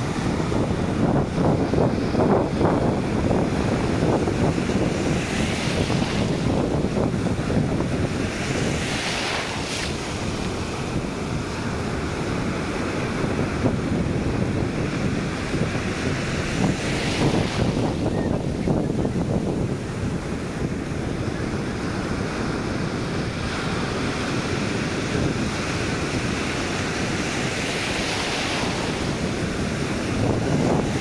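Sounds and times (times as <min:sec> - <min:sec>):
waves breaking on beach: 0:00.0 - 0:31.0
wind rumble on microphone: 0:00.0 - 0:31.0.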